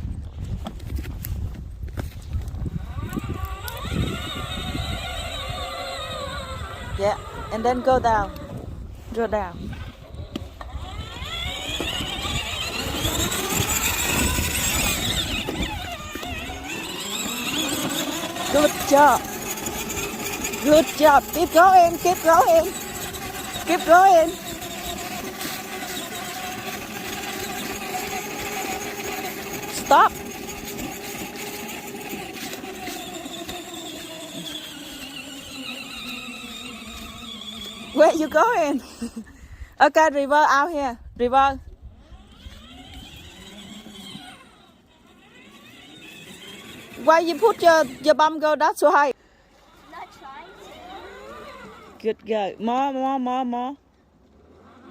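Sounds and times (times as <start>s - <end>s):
electric toy car motor whine: 2.0s - 39.2s, 39.9s - 52.2s, 54.2s - 54.9s.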